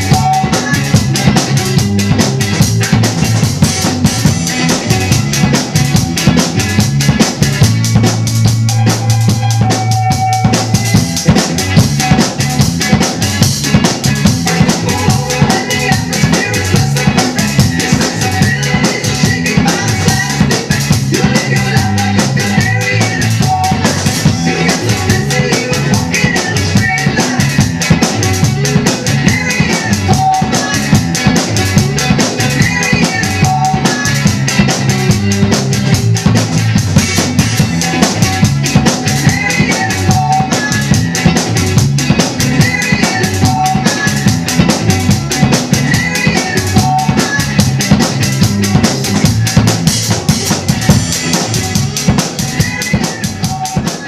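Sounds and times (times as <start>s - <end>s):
drum kit played fast: 0.0s - 54.0s
upbeat rock song recording: 0.0s - 54.0s.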